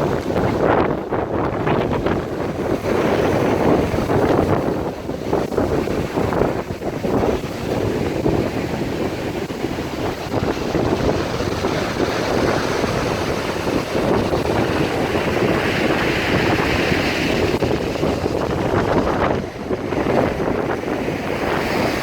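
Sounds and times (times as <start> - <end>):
waves breaking: 0.0 - 22.0
wind buffeting microphone: 0.0 - 22.0.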